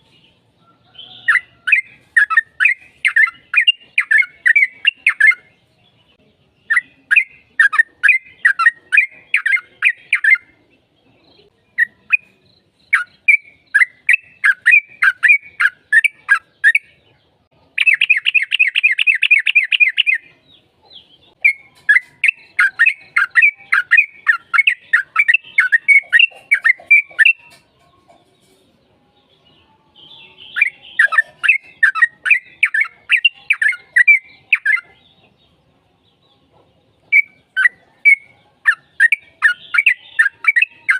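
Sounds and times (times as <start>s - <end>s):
bird singing rapid chirps: 0.0s - 10.6s, 11.2s - 17.1s, 17.7s - 28.6s, 29.2s - 40.9s.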